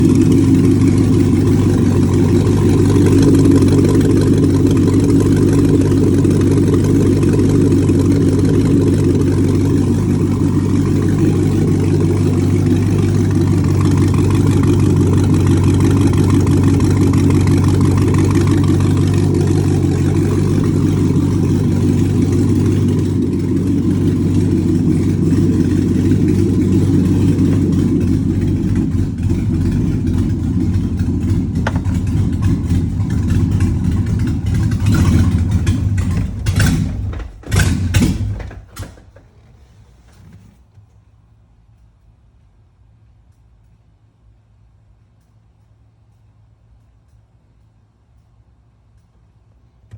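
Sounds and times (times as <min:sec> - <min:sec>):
car engine running: 0:00.0 - 0:40.8.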